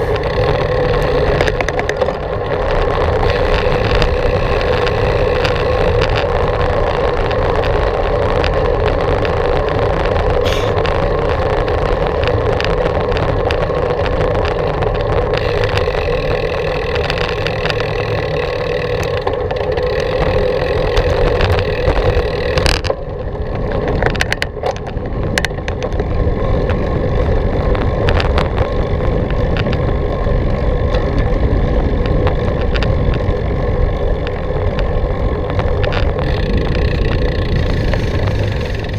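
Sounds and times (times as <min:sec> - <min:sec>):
bicycle tyres rolling: 0:00.0 - 0:38.9
wind rushing over microphone: 0:00.0 - 0:38.9.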